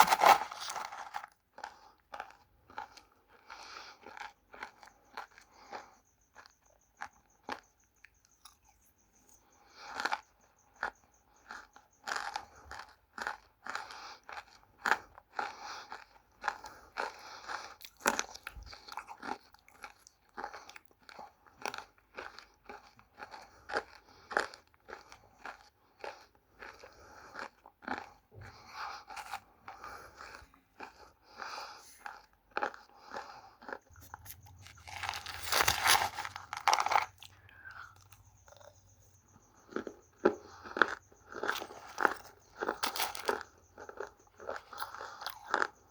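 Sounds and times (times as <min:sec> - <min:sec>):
crunching and chewing clay: 0:00.0 - 0:45.9.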